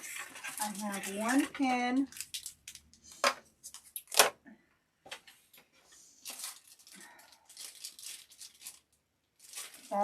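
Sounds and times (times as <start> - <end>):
packaging rustles: 0.0 - 4.2, 6.2 - 10.0.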